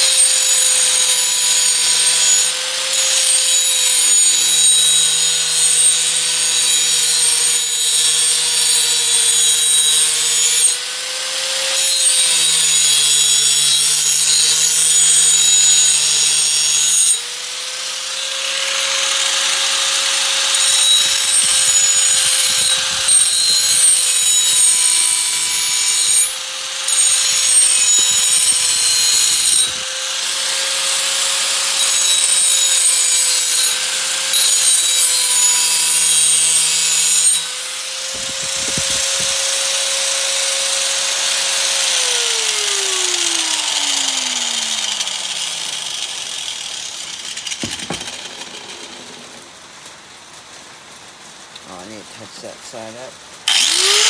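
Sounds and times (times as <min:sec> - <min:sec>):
grinding wheel on metal: 0:00.0 - 0:10.9, 0:11.5 - 0:17.2, 0:18.0 - 0:49.6, 0:53.5 - 0:54.0
power grinder motor whine: 0:00.0 - 0:49.4, 0:53.5 - 0:54.0.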